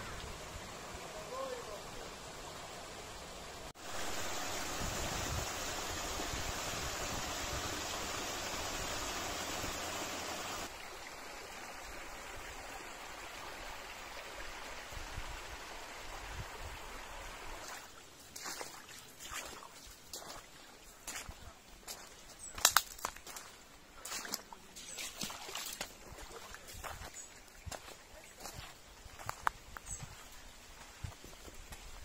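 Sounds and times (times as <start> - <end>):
stream water rushing: 0.0 - 21.3, 23.3 - 29.4.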